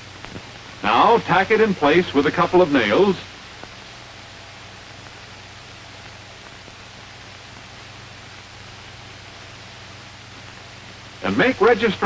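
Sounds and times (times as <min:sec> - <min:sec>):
faint low hum: 0:00.0 - 0:12.0
soundtrack hiss: 0:00.0 - 0:12.0.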